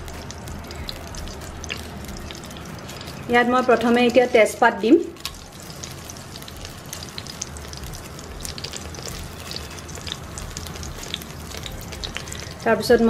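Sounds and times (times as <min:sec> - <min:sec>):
leaves frying in hot oil: 0:00.0 - 0:13.0
sizzle with small crackles: 0:00.0 - 0:13.0.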